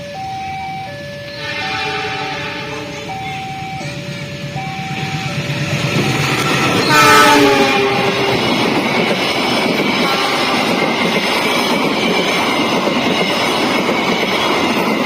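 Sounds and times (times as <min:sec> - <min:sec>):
faint high steady tones: 0:00.0 - 0:12.5
train rumbling on rails: 0:00.0 - 0:15.0.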